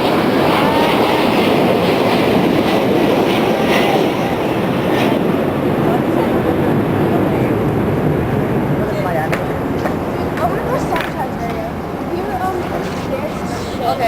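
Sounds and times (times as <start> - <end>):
airplane roar: 0.0 - 14.0.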